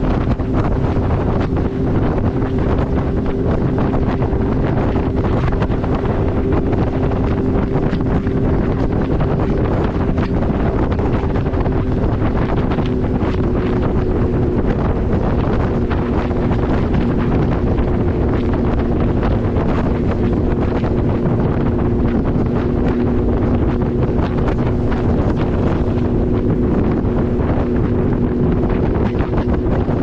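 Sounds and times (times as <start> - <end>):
wind buffeting on microphone: 0.0 - 30.0.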